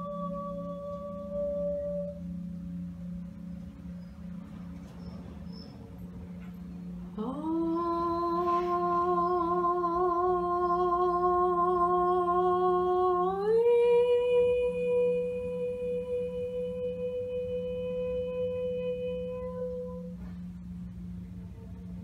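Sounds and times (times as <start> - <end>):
woman toning wordless notes: 0.0 - 22.0.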